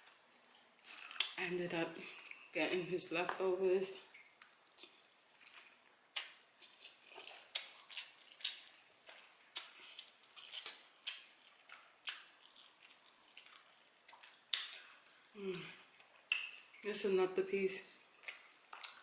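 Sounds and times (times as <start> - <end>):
person chewing food: 0.0 - 1.4, 2.0 - 2.5, 4.0 - 16.9, 18.0 - 19.0.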